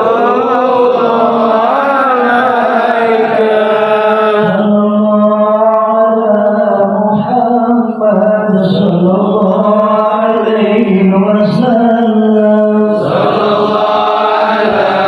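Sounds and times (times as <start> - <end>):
unaccompanied devotional chanting: 0.0 - 15.0.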